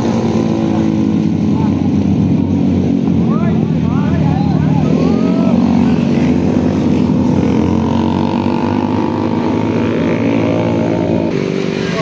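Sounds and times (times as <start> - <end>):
motorcycles passing at speed: 0.0 - 12.0.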